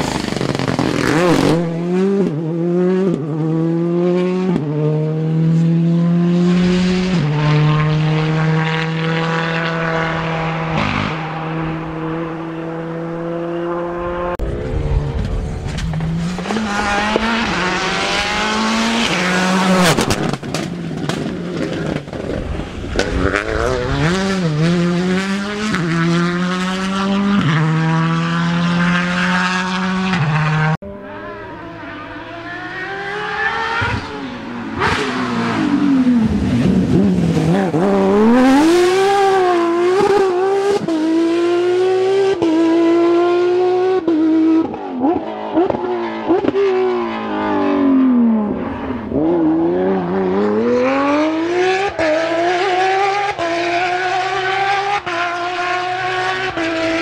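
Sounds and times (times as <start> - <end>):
rally car engines accelerating: 0.0 - 57.0.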